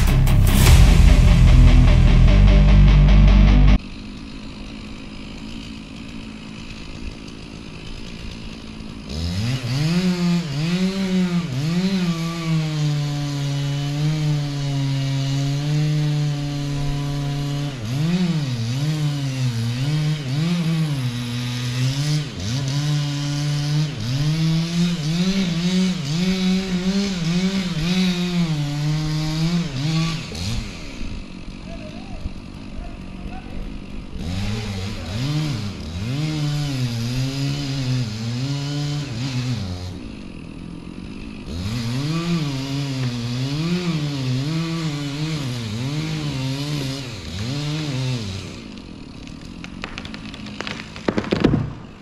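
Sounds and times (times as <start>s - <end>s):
chainsaw cutting into trunk: 3.8s - 52.0s.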